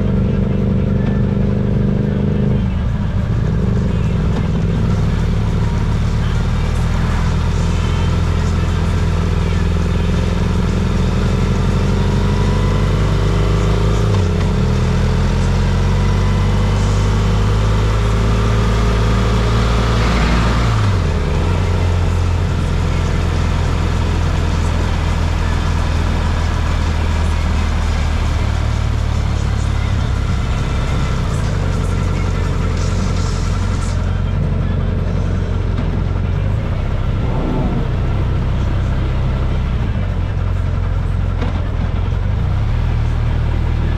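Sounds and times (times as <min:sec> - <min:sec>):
road noise: 0:00.0 - 0:43.9
vehicle engine running: 0:00.0 - 0:43.9.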